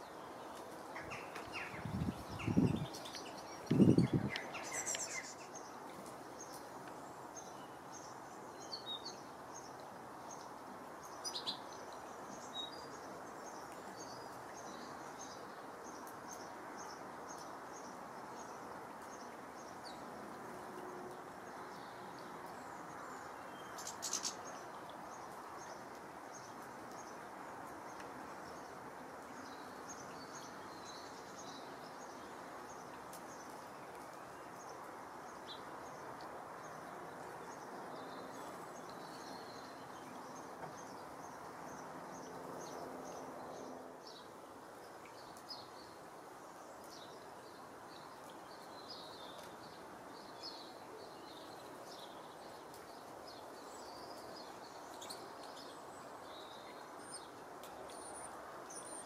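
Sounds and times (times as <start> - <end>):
small birds chirping: 0.0 - 20.1, 21.6 - 46.0, 46.6 - 59.0
background noise: 0.0 - 59.0.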